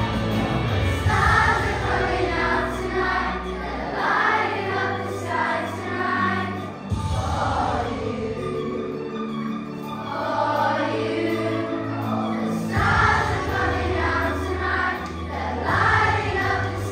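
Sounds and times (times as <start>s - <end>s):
instrumental backing music: 0.0s - 16.9s
children singing in unison: 1.0s - 16.9s.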